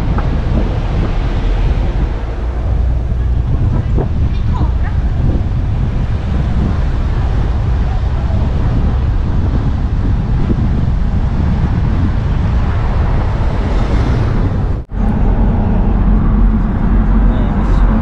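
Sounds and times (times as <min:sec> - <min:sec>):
car driving at speed: 0:00.0 - 0:18.0
wind noise on microphone: 0:00.0 - 0:18.0.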